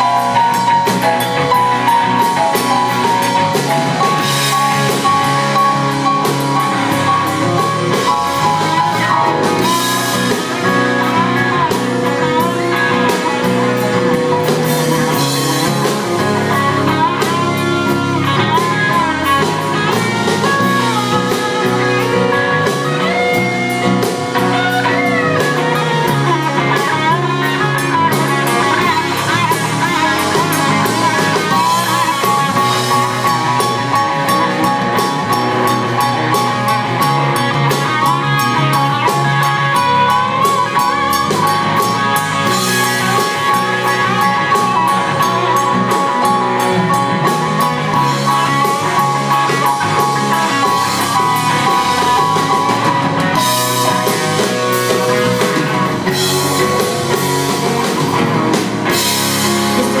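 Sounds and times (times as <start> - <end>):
bending lead guitar melody: 0.0 - 60.0
rock band playing: 0.0 - 60.0.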